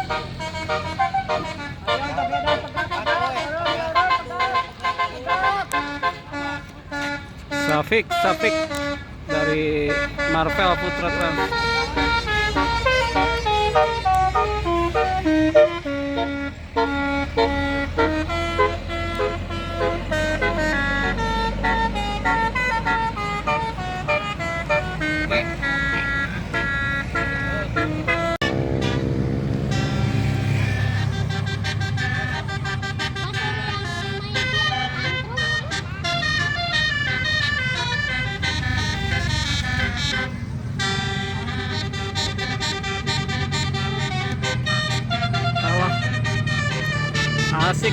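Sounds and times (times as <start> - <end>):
bus engine rumble: 0.0 - 47.9
musical bus horn melody: 0.0 - 47.9.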